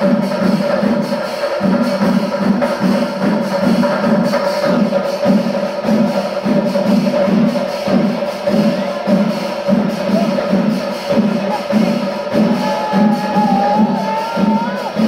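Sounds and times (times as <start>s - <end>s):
cymbals: 0.0s - 15.0s
drums pounding: 0.0s - 15.0s.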